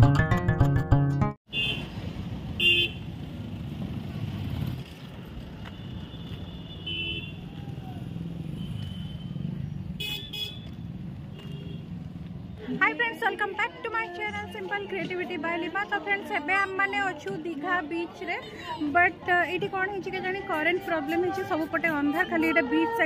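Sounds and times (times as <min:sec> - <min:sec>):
road traffic rumble: 0:01.5 - 0:23.0.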